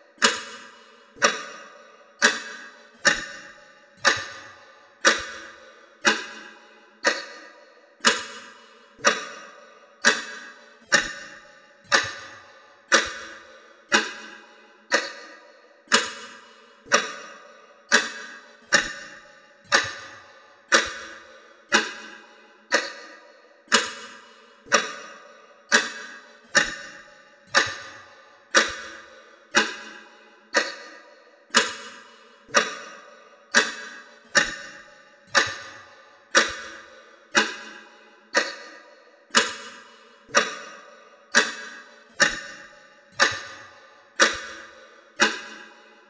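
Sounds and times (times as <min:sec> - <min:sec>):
clock ticking: 0:00.2 - 0:15.3, 0:15.9 - 0:45.8.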